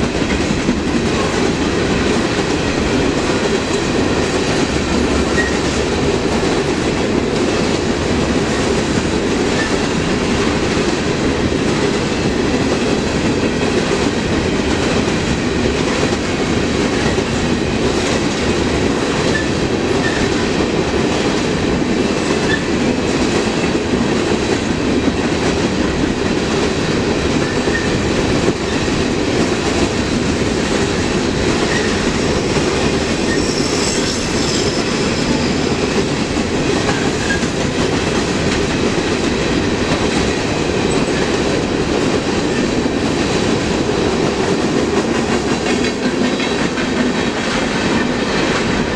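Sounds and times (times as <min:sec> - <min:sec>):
steel wheels rumbling on rail: 0:00.0 - 0:48.9.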